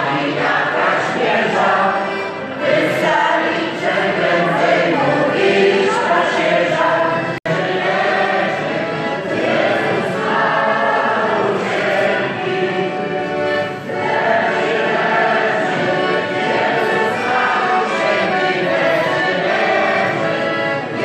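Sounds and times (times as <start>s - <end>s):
group singing a carol: 0.0s - 21.0s.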